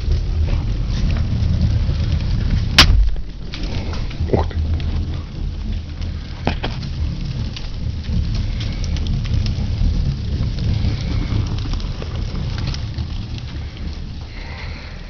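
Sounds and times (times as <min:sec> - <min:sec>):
fire crackling and popping: 0:00.0 - 0:15.0
low rumble: 0:00.0 - 0:15.0.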